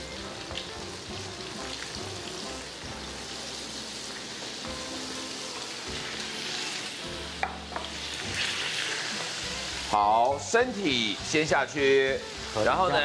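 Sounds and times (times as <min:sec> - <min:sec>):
deep-frying sizzle and bubbling: 0:00.0 - 0:13.0.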